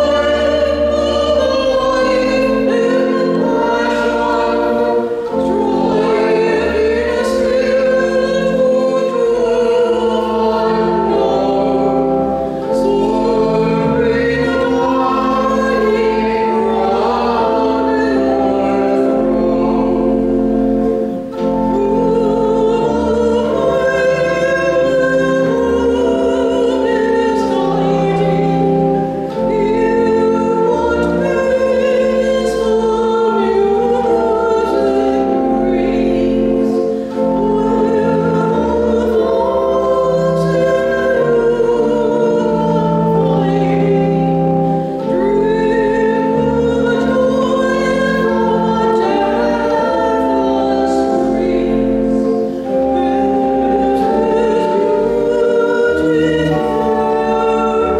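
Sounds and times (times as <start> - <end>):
held accompanying chords: 0.0 - 57.9
voices singing a hymn: 0.0 - 57.9.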